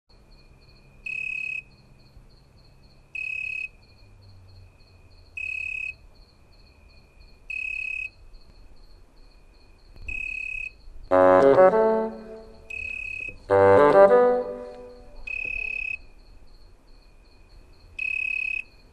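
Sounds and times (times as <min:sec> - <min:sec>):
crickets trilling: 0:00.1 - 0:18.9
loud cricket chirp: 0:00.1 - 0:18.9.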